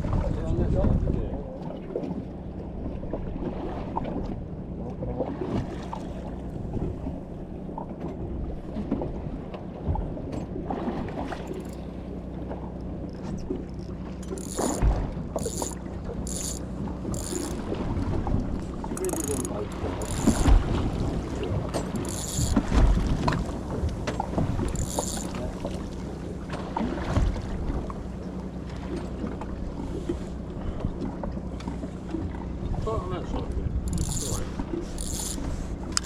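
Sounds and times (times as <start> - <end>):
boat engine humming: 0.0 - 36.0
water noise: 0.0 - 36.0
wind: 0.0 - 36.0.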